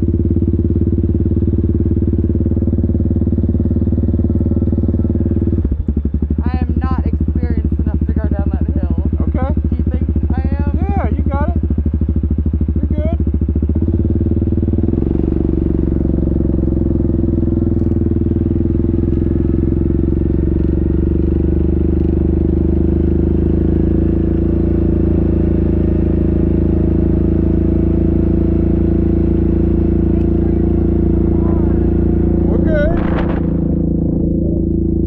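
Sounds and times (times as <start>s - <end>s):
single-cylinder engine running: 0.0s - 35.0s.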